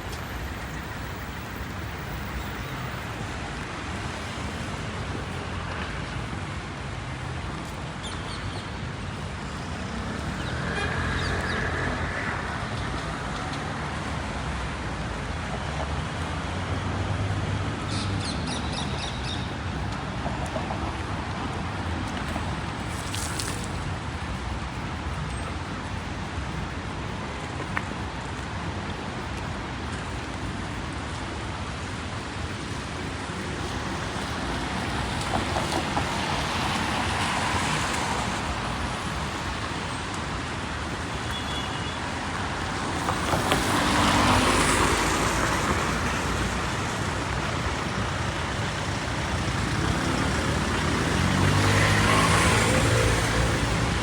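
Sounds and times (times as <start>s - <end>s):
rain on a street: 0.0s - 54.0s.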